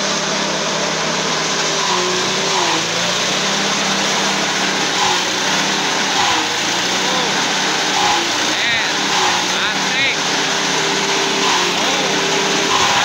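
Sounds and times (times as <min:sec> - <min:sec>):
petrol engine of forage chopper: 0:00.0 - 0:13.0.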